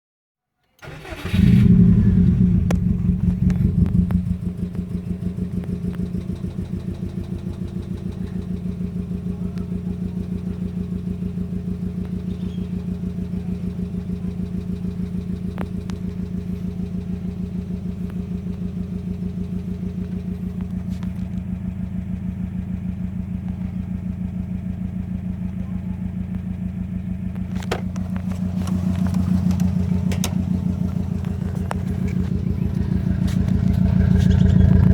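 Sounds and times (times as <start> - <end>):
car engine idling: 0.8 - 34.9.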